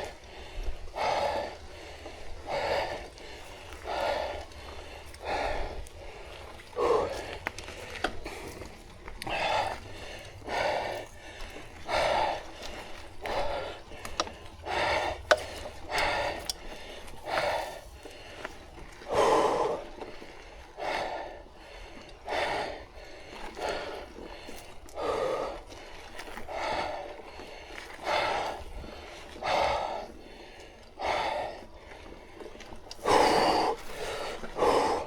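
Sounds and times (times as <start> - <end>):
cyclist breathing hard: 0.0 - 35.0.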